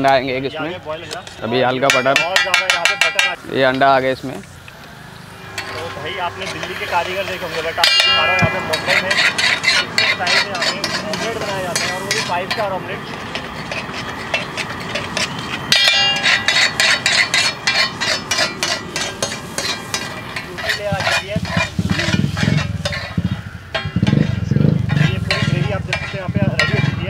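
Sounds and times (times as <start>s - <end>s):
metal spatula clacking on griddle: 1.1s - 3.4s, 5.4s - 27.0s
frying sizzle: 3.2s - 26.1s.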